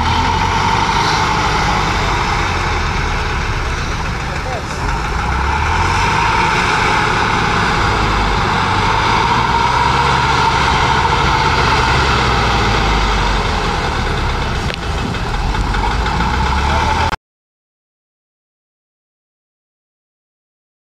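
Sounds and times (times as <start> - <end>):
diesel engine running: 0.0 - 17.2.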